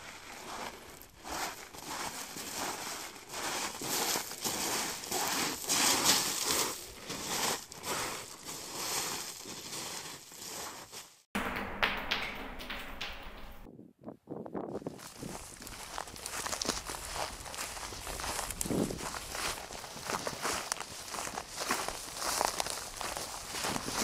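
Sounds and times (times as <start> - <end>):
footsteps through dry grass: 0.0 - 11.3, 14.7 - 24.0.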